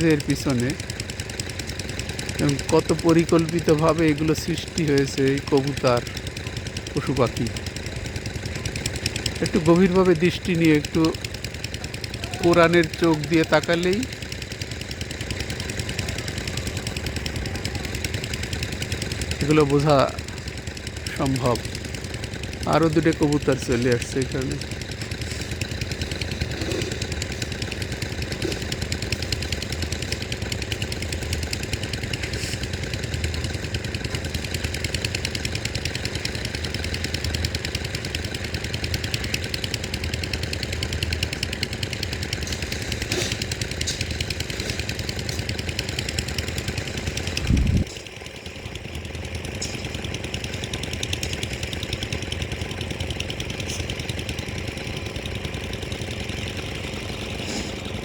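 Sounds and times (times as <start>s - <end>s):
engine knocking steadily: 0.0s - 58.0s.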